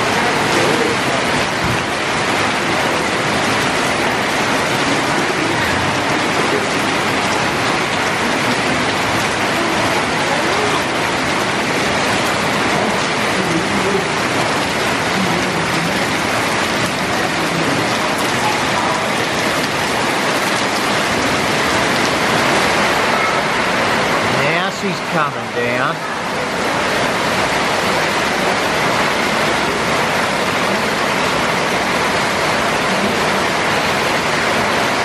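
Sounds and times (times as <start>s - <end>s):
heavy rain on concrete and roofs: 0.0s - 35.0s.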